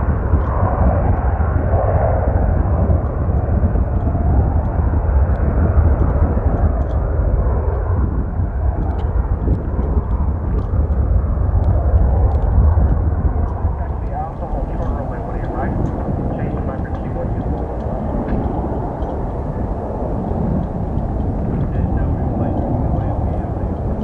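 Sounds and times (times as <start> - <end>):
jet engines roaring: 0.0 - 24.0
low rumble: 0.0 - 24.0.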